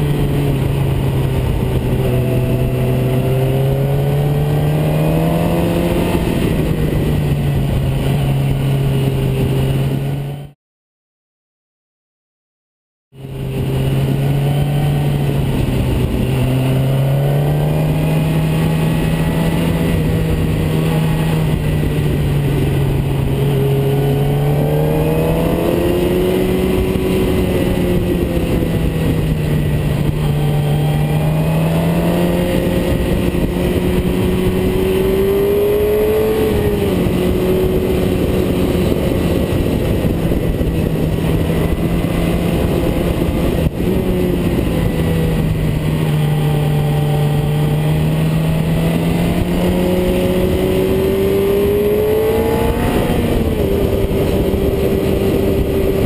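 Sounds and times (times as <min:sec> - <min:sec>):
car engine revving: 0:00.0 - 0:08.9, 0:13.3 - 0:56.0.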